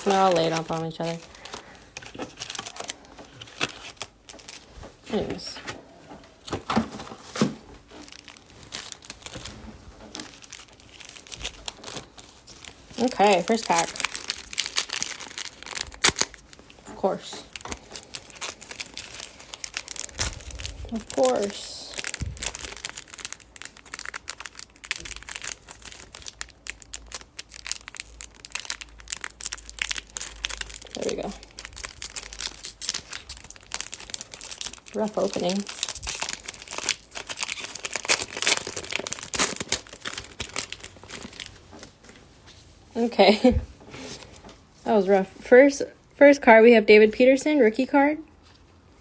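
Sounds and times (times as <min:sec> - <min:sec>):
foil packs crinkling: 0:00.0 - 0:05.8, 0:06.4 - 0:42.4.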